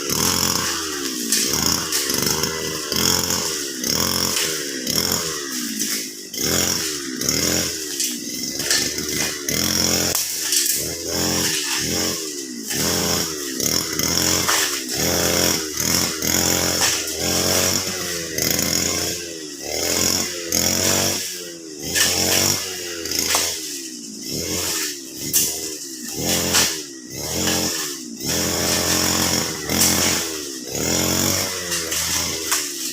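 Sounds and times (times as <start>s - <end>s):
brush cutter engine revving: 0.0s - 32.9s.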